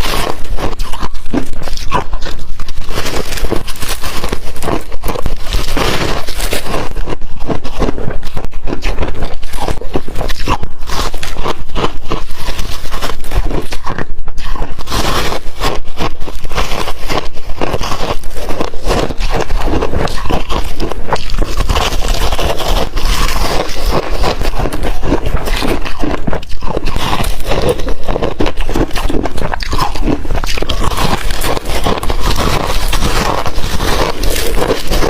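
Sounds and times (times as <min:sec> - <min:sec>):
ice crunched between teeth: 0:00.0 - 0:35.0.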